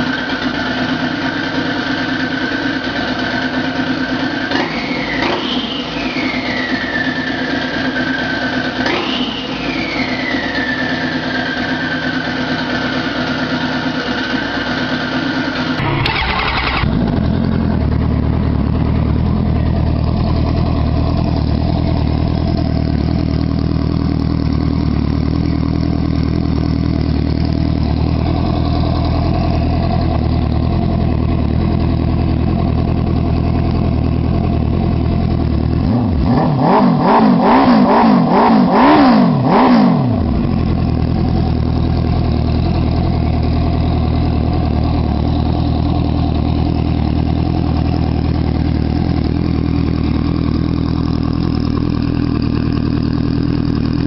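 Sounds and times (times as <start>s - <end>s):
motorbike engine idling and revving: 0.0s - 54.0s.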